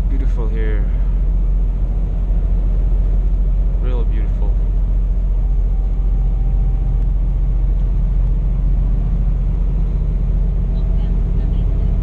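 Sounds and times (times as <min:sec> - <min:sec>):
road noise: 0:00.0 - 0:12.0
truck engine rumble in cab: 0:00.0 - 0:12.0.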